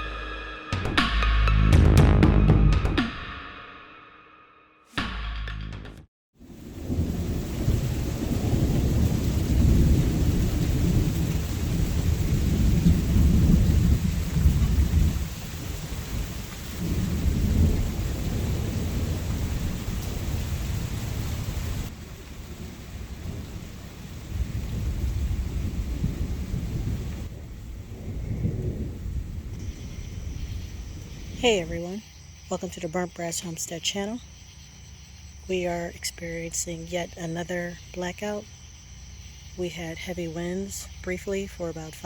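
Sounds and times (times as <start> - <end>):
rain hiss: 6.4 - 42.0
thunder rumbling: 6.4 - 42.0.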